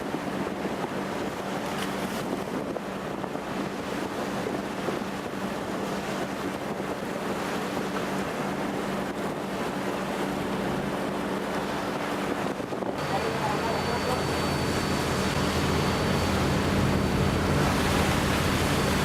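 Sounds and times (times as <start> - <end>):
boat engine humming: 0.0 - 19.0
wind and sea noise: 0.0 - 19.0
wind on microphone: 0.0 - 19.0.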